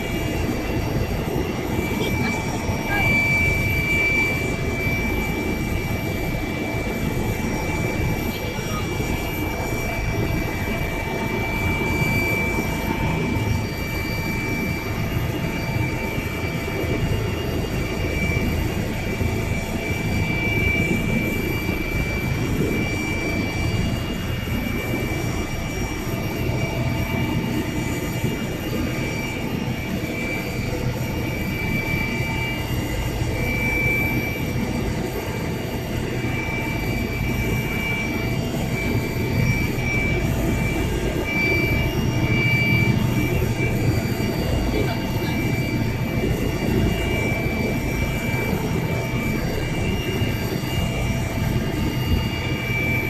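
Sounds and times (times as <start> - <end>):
helicopter turbine engine running: 0.0 - 53.0
high-pitched turbine whine: 0.0 - 53.0.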